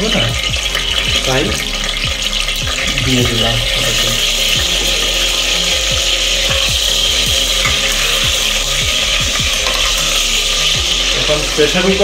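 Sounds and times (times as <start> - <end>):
food sizzling in a pot: 0.0 - 12.0
spatula scraping and stirring: 0.0 - 12.0.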